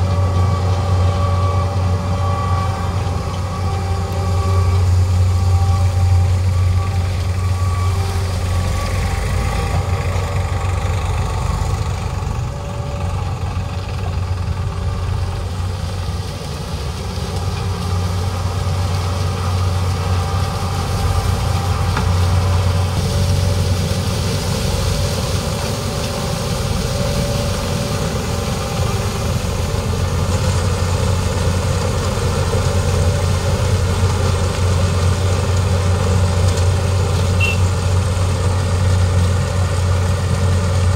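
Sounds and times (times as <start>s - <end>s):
diesel engines humming: 0.0s - 40.9s.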